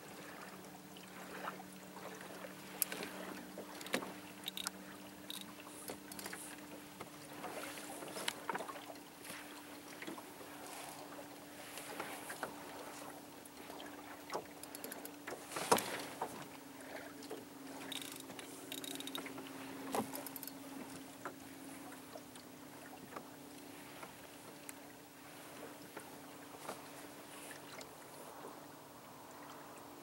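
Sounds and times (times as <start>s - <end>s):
small boat motor humming: 0.0s - 30.0s
water lapping: 0.0s - 30.0s.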